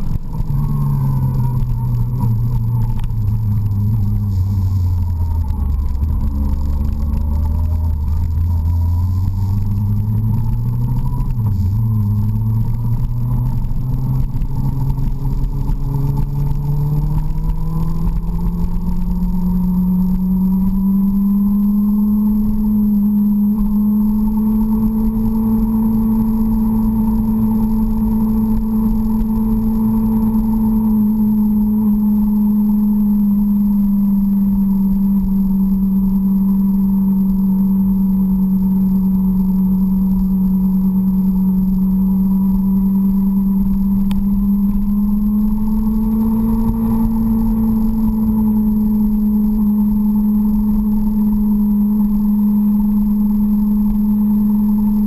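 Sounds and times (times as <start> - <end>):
low rumble: 0.0 - 55.0
motorcycle engine cruising: 0.0 - 55.0.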